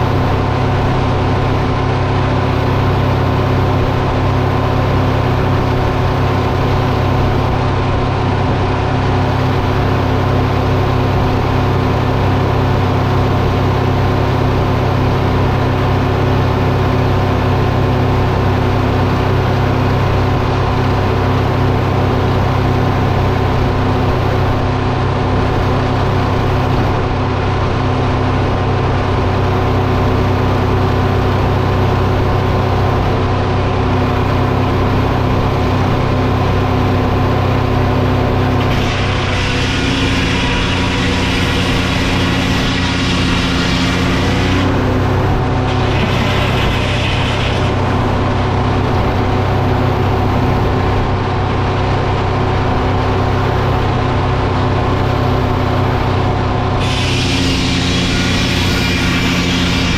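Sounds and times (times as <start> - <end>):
large engine droning: 0.0 - 59.9.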